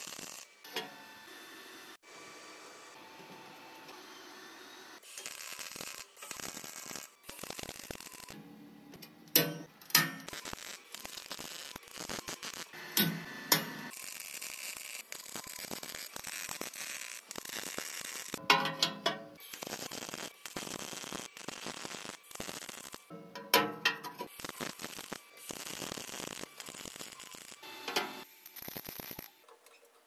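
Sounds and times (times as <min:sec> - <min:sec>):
welding arc crackling: 0:00.0 - 0:00.7, 0:05.0 - 0:08.4, 0:09.4 - 0:29.4.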